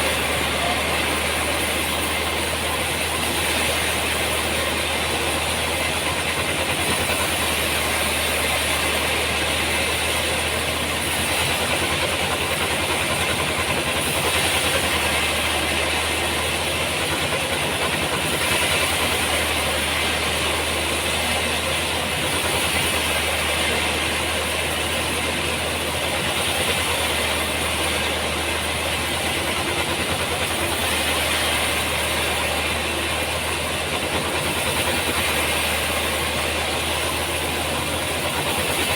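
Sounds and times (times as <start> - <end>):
sawmill machinery hiss and hum: 0.0 - 38.9.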